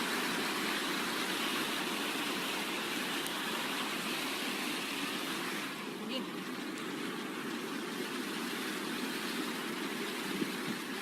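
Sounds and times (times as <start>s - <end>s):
heavy rain: 0.0s - 11.0s
runoff water flowing: 0.0s - 11.0s.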